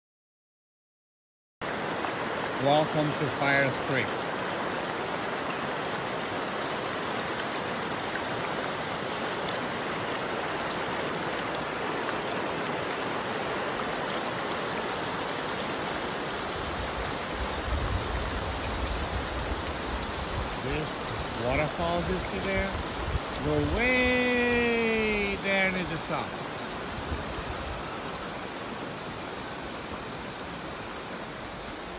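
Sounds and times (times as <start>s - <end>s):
creek rushing over rocks: 1.6s - 31.9s.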